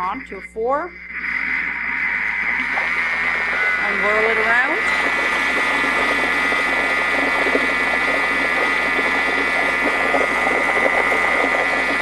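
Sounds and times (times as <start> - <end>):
food processor motor whine: 1.7 - 12.0.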